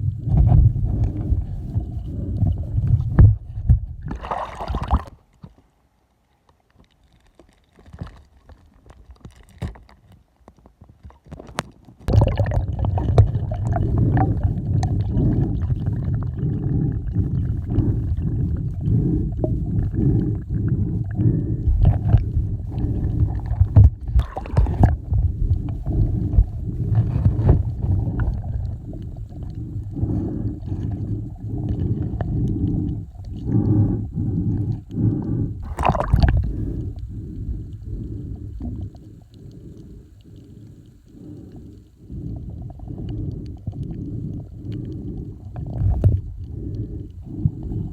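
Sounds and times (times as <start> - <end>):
water gurgling and sloshing: 0.0 - 5.6, 6.8 - 47.9.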